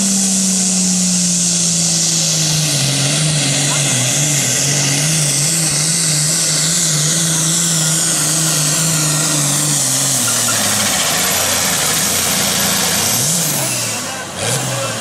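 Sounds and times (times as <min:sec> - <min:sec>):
high turbo whine: 0:00.0 - 0:15.0
tractor diesel engine at full power: 0:00.0 - 0:15.0.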